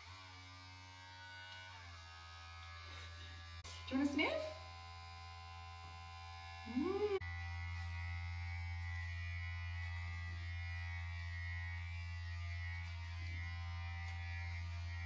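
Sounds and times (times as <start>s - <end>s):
electric hair clipper buzzing: 0.0s - 15.0s.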